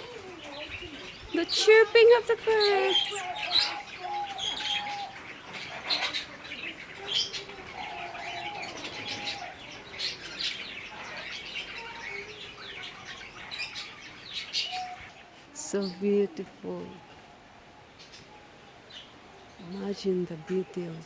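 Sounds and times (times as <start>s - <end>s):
songbirds chirping and singing: 0.0s - 21.0s.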